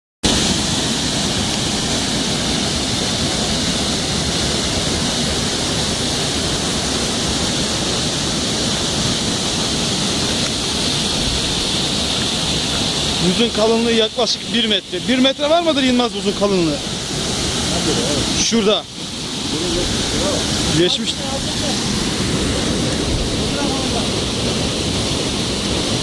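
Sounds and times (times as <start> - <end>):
waterfall rushing: 0.2 - 26.0.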